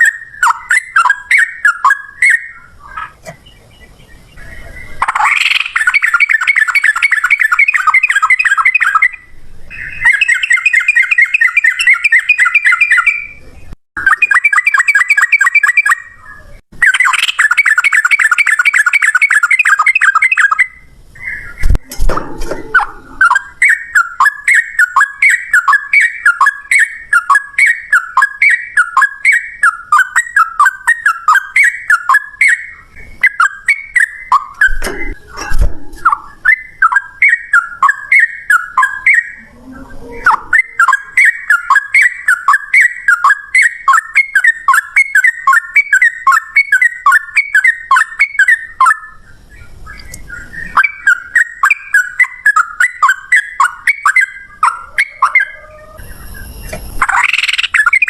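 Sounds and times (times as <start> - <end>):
bulbul singing whistled notes: 0.0 - 58.0.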